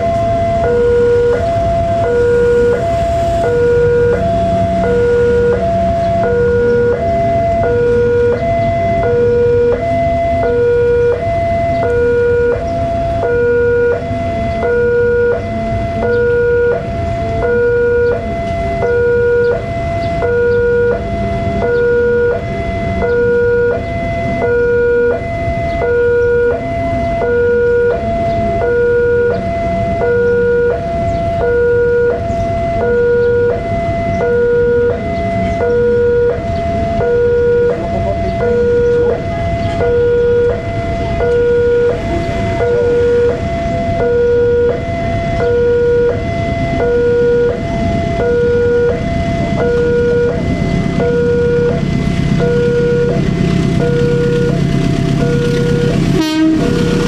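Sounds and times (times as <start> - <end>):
two-tone crossing alarm: 0.0 - 57.0.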